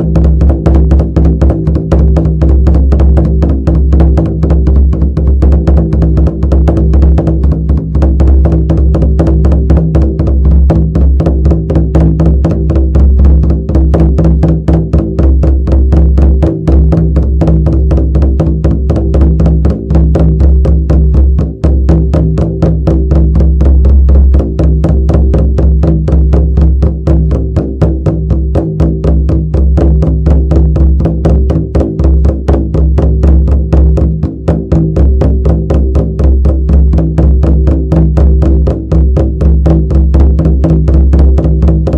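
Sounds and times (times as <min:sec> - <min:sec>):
frame drum beaten fast: 0:00.0 - 0:41.9.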